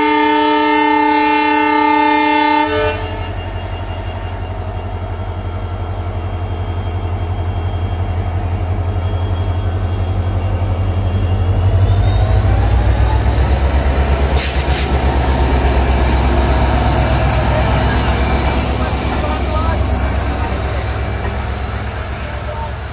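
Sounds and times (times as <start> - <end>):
locomotive diesel engine throbbing: 0.0 - 22.9.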